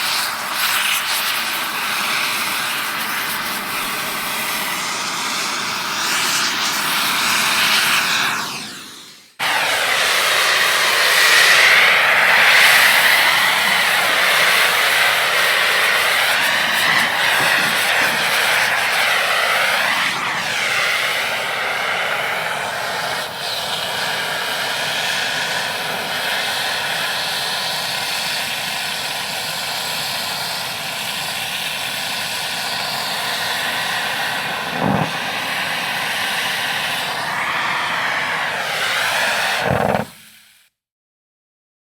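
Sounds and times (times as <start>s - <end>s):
torch flame hissing: 0.0s - 40.7s.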